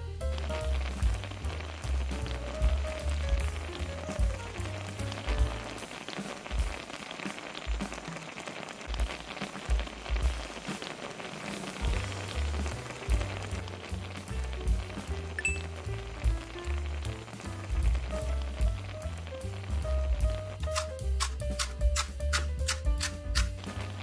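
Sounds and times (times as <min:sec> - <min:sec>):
background music with low beat: 0:00.0 - 0:10.9, 0:11.6 - 0:24.0
sauce bubbling in a pan: 0:00.0 - 0:24.0.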